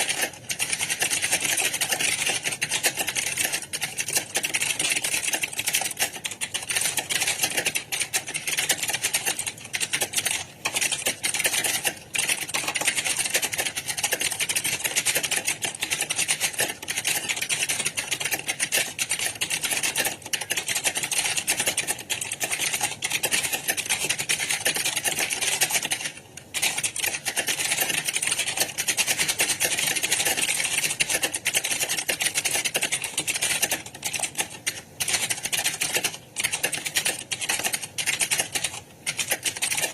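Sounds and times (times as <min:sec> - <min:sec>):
many keyboards clattering: 0:00.0 - 0:39.9.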